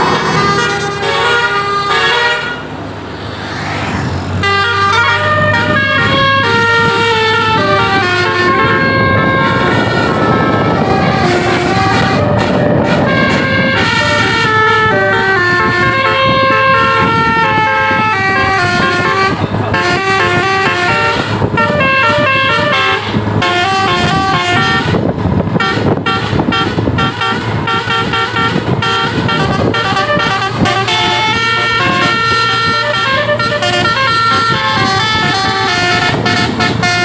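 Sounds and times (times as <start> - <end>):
musical bus horn playing a tune: 0.0 - 2.8, 4.4 - 37.0.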